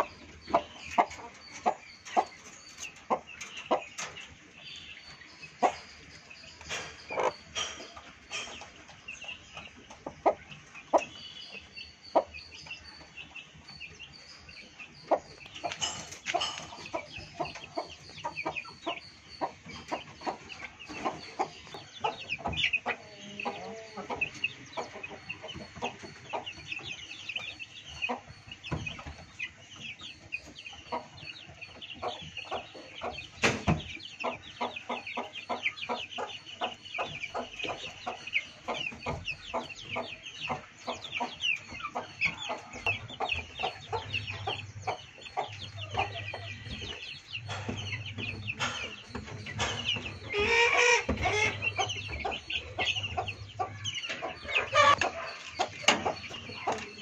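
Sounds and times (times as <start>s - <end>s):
chickens clucking: 0.0s - 57.0s
chicks peeping: 0.0s - 57.0s.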